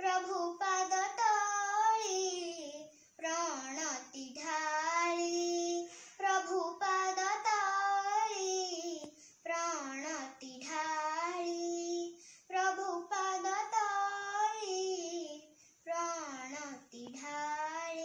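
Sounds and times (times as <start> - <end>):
girl singing solo: 0.0 - 18.0.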